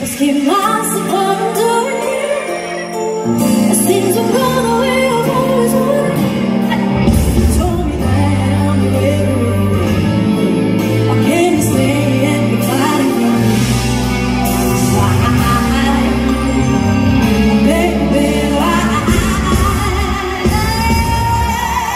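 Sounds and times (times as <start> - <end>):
band accompaniment: 0.0 - 21.9
woman singing pop song: 0.0 - 21.9
bass guitar: 3.3 - 21.9.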